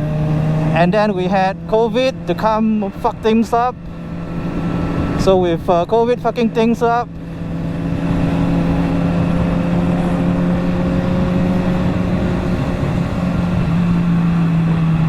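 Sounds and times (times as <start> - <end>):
low wind rumble: 0.0 - 15.0
motorcycle engine running steadily: 0.0 - 15.0.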